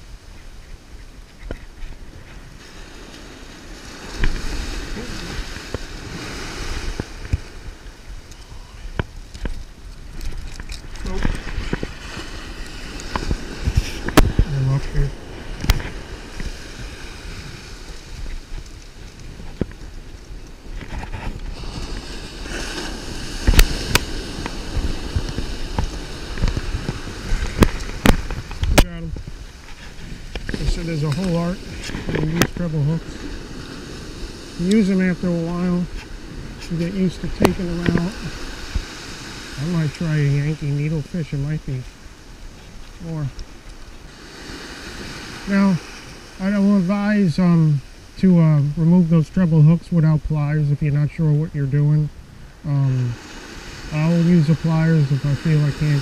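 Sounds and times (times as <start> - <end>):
surf washing in: 0.0 - 56.0
wind rumble on microphone: 0.0 - 56.0.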